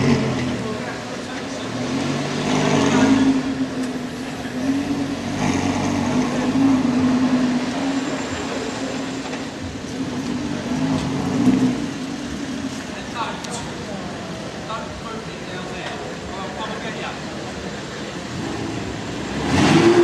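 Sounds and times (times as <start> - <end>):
car engine revving: 0.0 - 15.5, 17.1 - 20.0.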